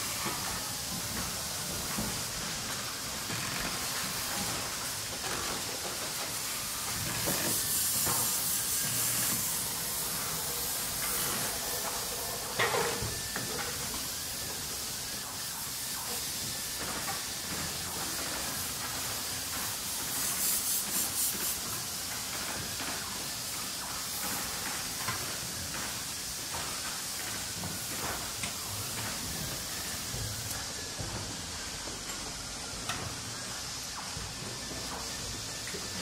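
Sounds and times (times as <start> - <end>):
air or steam releases: 0.0 - 36.0
machinery hiss: 0.0 - 36.0.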